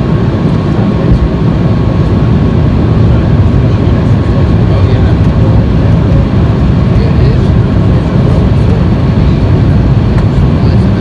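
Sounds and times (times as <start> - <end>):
jet cabin engine rumble: 0.0 - 11.0.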